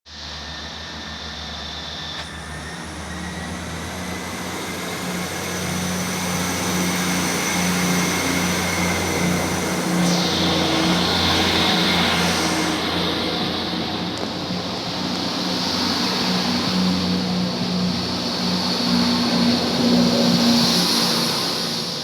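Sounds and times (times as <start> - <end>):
faint rising whine: 0.1 - 22.0
train pulling away: 0.1 - 22.0.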